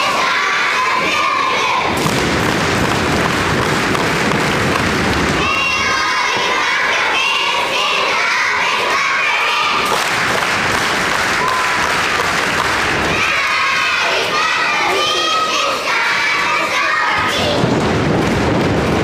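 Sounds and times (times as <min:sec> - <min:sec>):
children shouting and cheering: 0:00.0 - 0:19.0.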